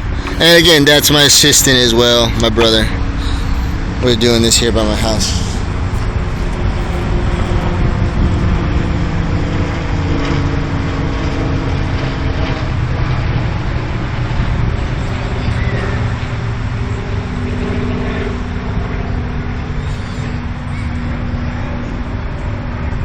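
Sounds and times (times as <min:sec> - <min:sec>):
rumbling road traffic: 0:00.0 - 0:23.0.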